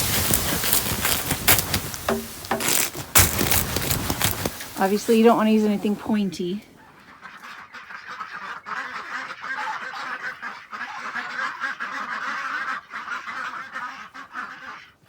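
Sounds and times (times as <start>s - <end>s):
ducks and geese calling: 0.0s - 15.0s.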